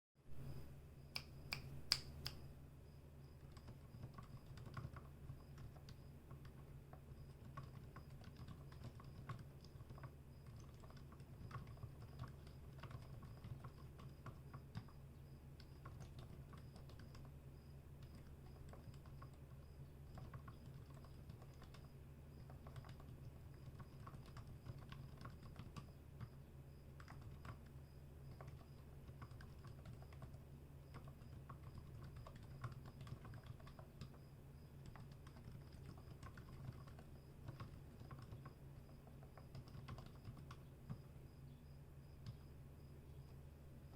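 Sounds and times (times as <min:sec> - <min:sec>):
low steady hum: 0:00.2 - 0:43.9
soft keyboard typing: 0:00.4 - 0:43.9.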